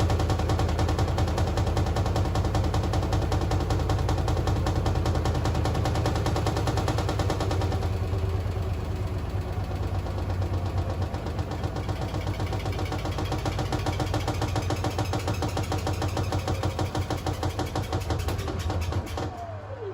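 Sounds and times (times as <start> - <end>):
rapid rattling knock: 0.0 - 19.4
washing machine humming: 0.0 - 19.9.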